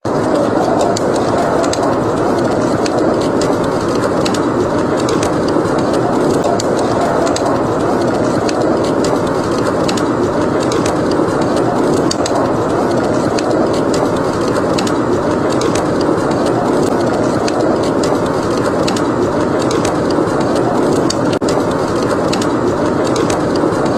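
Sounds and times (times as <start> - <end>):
blizzard wind rushing: 0.0 - 23.9
wood fire crackling: 0.0 - 23.9.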